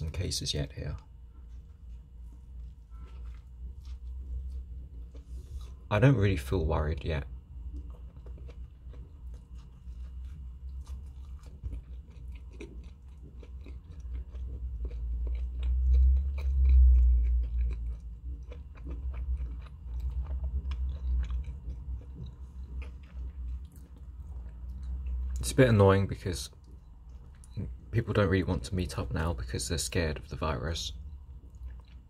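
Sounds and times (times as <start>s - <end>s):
person chewing close up: 1.4s - 5.9s, 7.6s - 29.3s, 30.9s - 32.0s.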